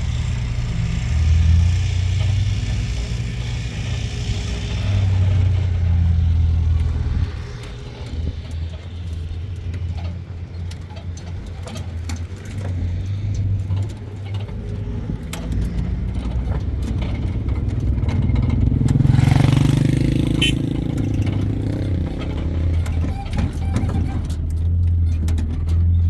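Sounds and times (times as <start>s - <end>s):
engine running at low speed: 0.0s - 26.0s.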